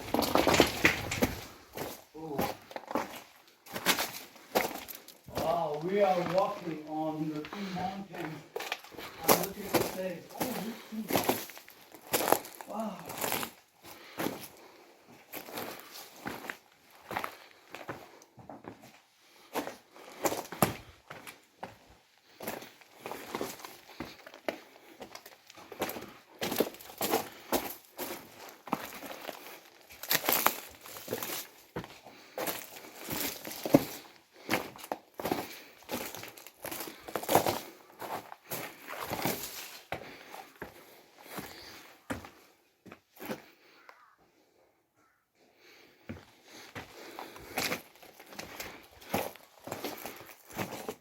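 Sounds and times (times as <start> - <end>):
footsteps crunching on rocky ground: 0.0 - 44.2, 45.1 - 51.0.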